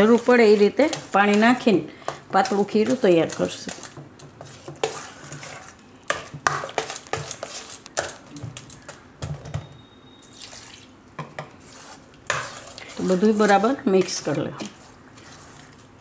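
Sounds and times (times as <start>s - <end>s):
batter sloshing: 0.0s - 9.0s, 11.6s - 16.0s.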